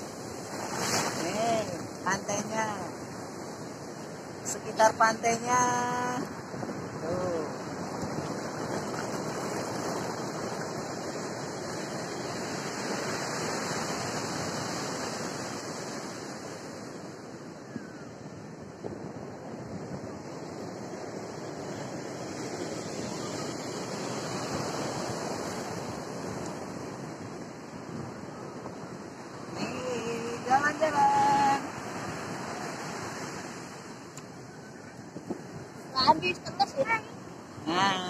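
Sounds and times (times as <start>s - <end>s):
small waves breaking on sand: 0.0s - 38.0s.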